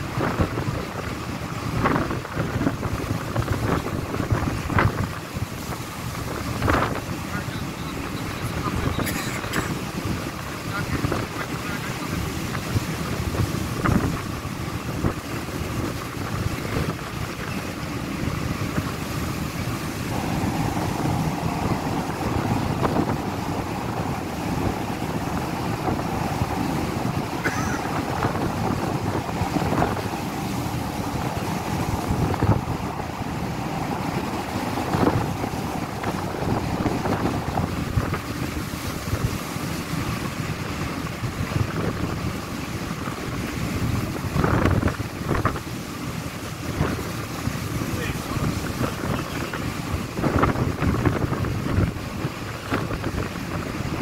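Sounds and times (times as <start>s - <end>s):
rough sea rushing: 0.0s - 54.0s
wind buffeting microphone: 0.0s - 54.0s.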